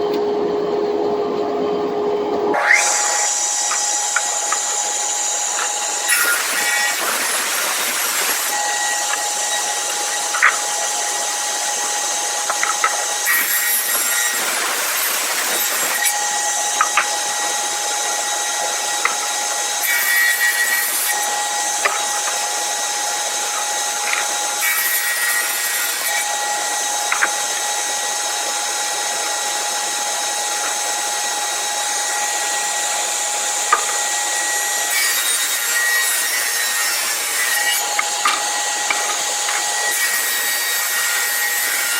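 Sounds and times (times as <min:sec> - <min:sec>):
power saw cutting wood: 0:00.0 - 0:41.9.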